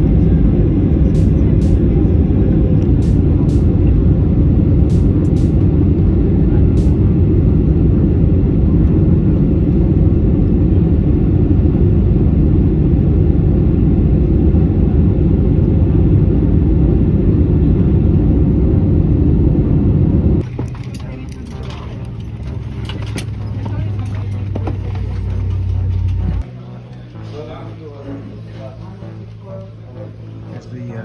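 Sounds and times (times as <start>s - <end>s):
jet airliner cabin noise: 0.0s - 31.0s.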